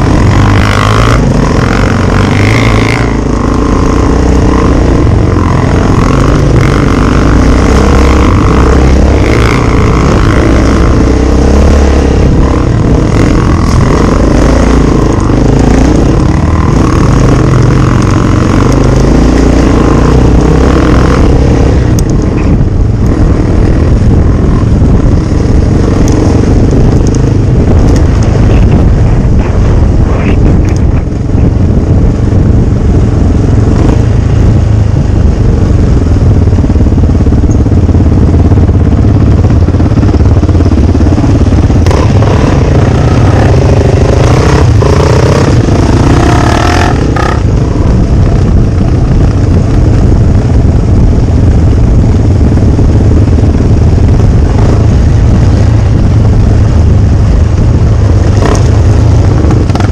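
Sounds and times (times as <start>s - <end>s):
motor vehicle engine running: 0.0s - 59.9s.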